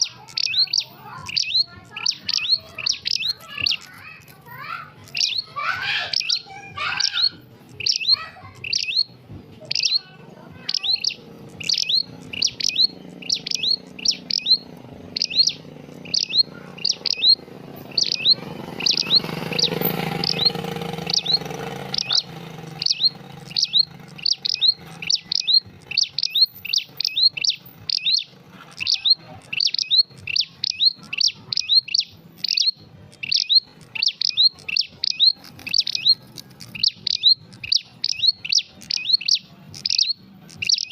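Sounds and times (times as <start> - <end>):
bird chirping sharply: 0.0 - 40.9.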